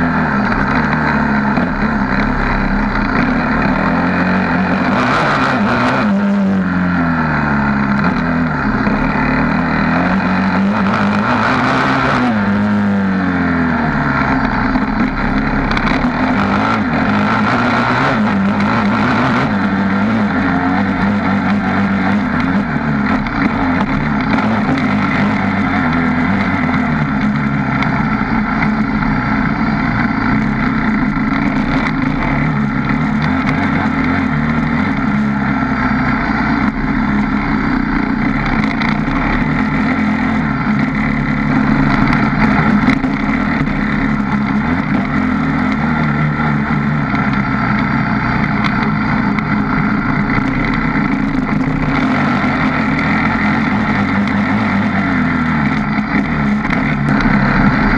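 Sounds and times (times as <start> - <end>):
quad engine revving: 0.0 - 57.9.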